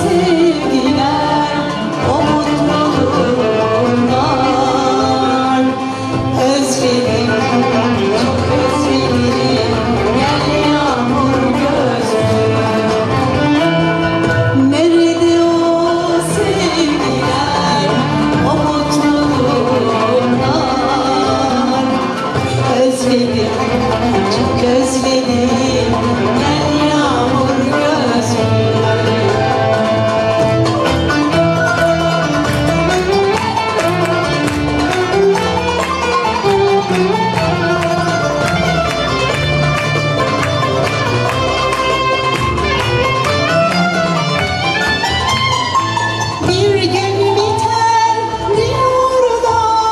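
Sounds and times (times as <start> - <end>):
plucked strings: 0.0 - 49.6
violin melody: 0.0 - 49.9.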